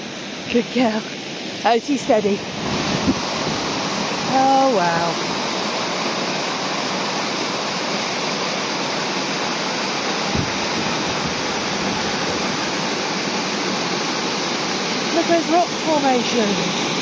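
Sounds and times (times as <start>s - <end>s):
small waterfall splashing into pool: 2.2s - 17.0s.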